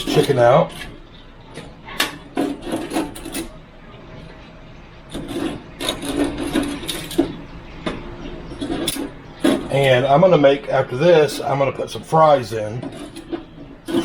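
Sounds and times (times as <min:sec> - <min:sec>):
chicken pieces knocking and scraping: 0:00.0 - 0:03.6, 0:05.1 - 0:14.0.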